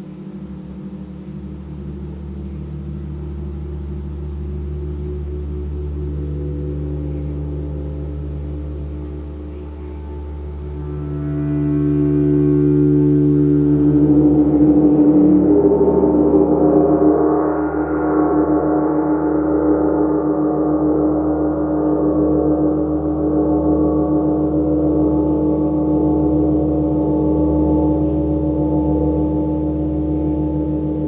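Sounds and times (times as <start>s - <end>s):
large gong resonating: 0.0s - 31.0s.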